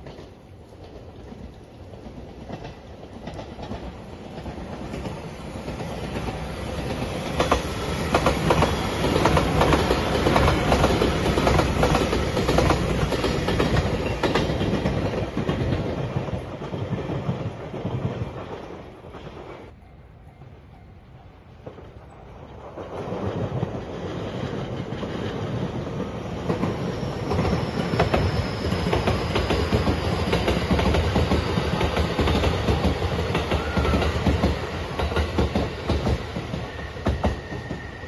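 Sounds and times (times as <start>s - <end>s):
train wheels clicking over rail joints: 0.0s - 19.7s, 21.6s - 38.0s
electric train passing: 0.0s - 38.0s.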